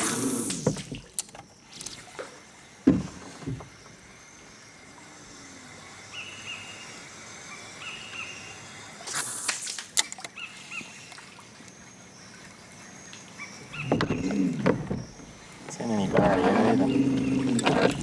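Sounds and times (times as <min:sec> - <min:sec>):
water sloshing and trickling: 0:00.0 - 0:06.0, 0:08.8 - 0:18.0
birds chirping: 0:00.0 - 0:09.1, 0:10.0 - 0:18.0.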